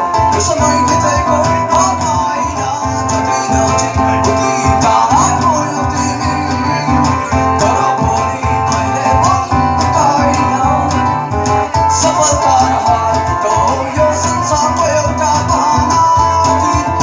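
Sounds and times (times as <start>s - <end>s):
drum beat: 0.0s - 17.0s
guitars: 0.0s - 17.0s
live rock band playing: 0.0s - 17.0s.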